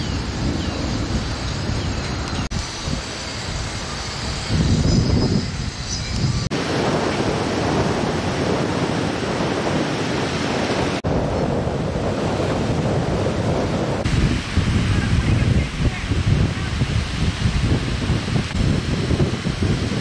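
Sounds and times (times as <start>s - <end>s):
ocean surf on sandy beach: 0.0s - 20.0s
wind buffeting microphone: 0.0s - 20.0s.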